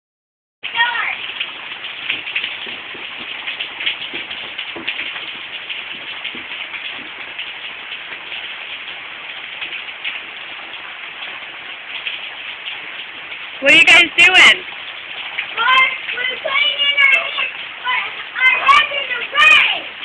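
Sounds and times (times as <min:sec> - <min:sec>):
drips and splashes: 0:00.6 - 0:20.0
rain pattering: 0:00.6 - 0:20.0.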